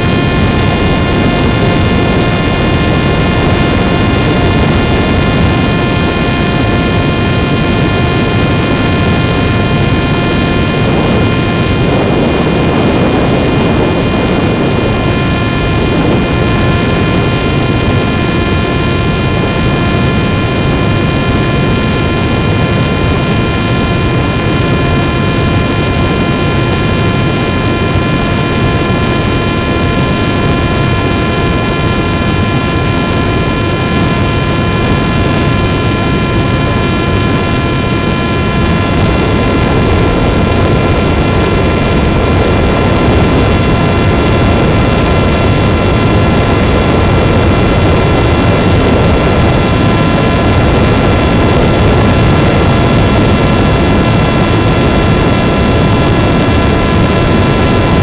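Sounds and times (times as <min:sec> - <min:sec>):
model plane motor and propeller: 0:00.0 - 0:58.0
wind noise on microphone: 0:00.0 - 0:58.0.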